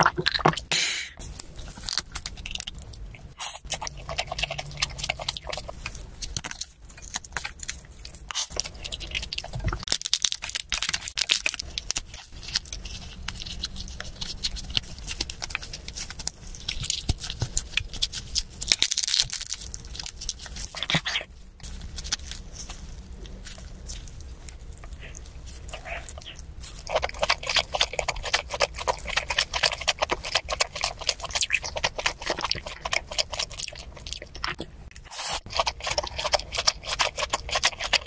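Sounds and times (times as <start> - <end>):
chewing noodles: 1.9 - 38.0.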